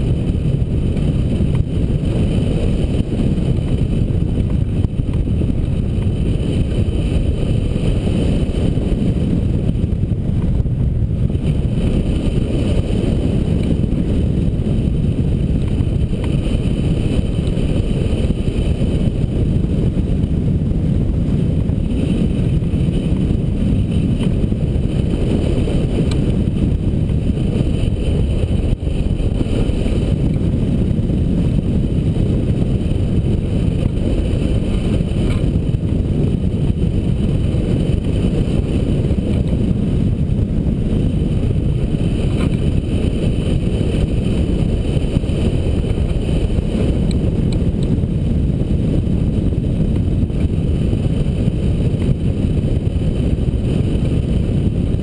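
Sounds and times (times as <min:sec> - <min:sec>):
wind roar over microphone: 0:00.0 - 0:55.0.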